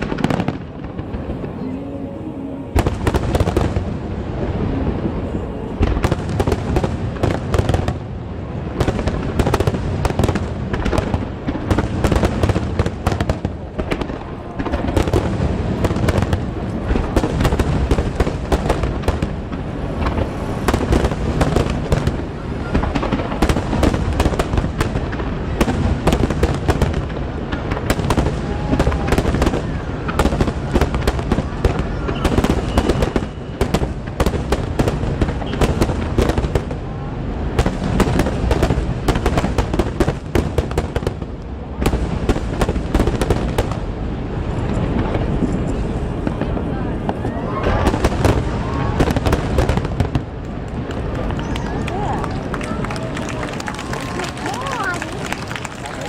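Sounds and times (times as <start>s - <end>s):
fireworks booming: 0.0s - 56.0s
fireworks crackling: 0.0s - 56.0s.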